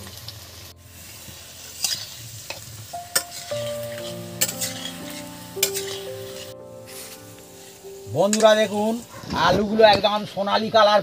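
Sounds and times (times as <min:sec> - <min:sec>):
potatoes sizzling in oil: 0:00.0 - 0:10.5.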